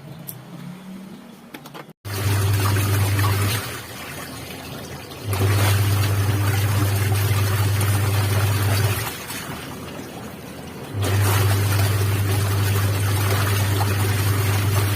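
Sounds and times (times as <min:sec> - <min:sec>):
washing machine motor humming: 0:02.0 - 0:14.9
water sloshing in tub: 0:02.0 - 0:14.9.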